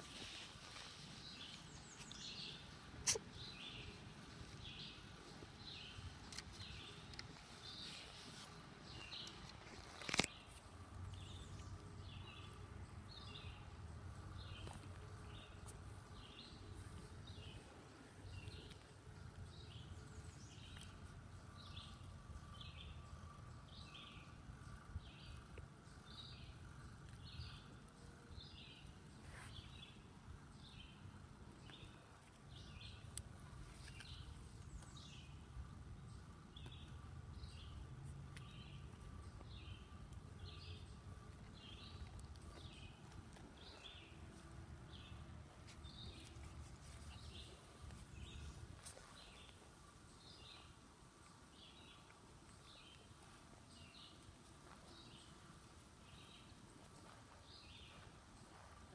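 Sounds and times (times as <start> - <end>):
outdoor background noise: 0.0 - 58.9
bird chirping: 1.2 - 50.8.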